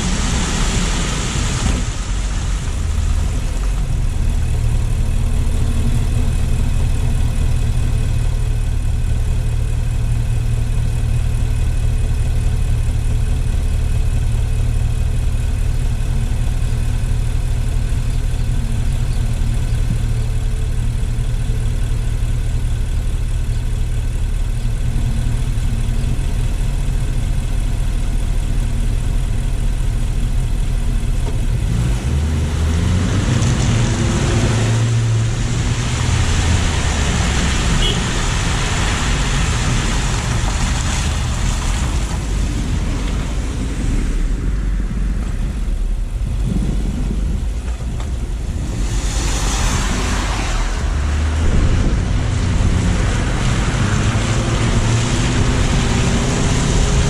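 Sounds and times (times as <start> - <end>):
car engine idling: 0.0 - 57.0
car pulling away: 0.0 - 57.0
tyre and road noise: 0.0 - 57.0.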